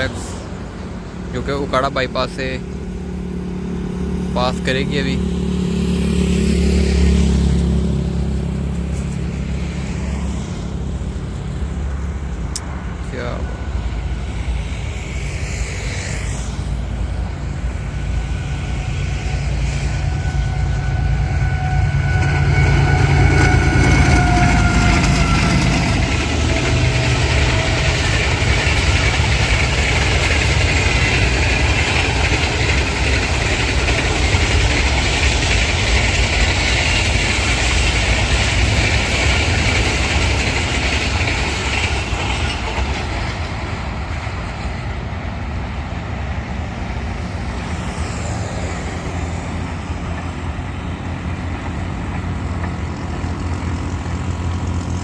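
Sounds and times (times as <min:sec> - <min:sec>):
diesel locomotive engine rumble: 0:00.0 - 0:55.0
train wheels on rail: 0:00.0 - 0:55.0.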